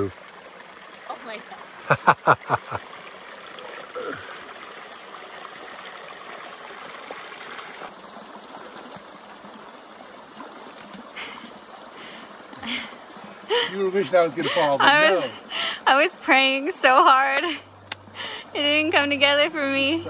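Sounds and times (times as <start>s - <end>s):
stream trickling: 0.0s - 20.0s.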